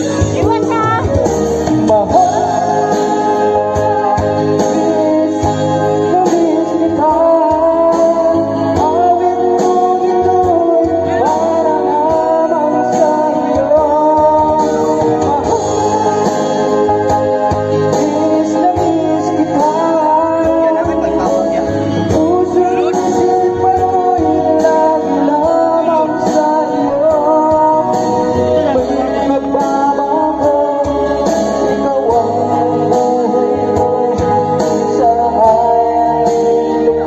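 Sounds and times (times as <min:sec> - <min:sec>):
ballad with guitar and bass: 0:00.0 - 0:37.0.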